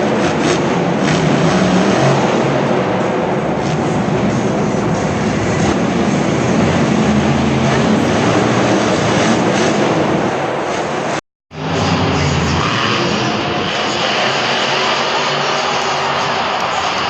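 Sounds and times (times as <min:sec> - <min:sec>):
truck engine running loud: 0:00.0 - 0:17.0.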